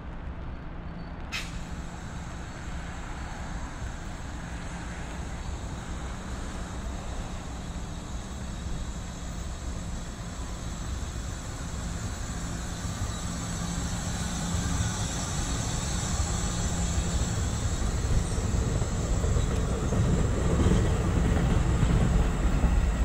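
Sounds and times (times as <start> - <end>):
train rumble and hiss: 0.0 - 23.0.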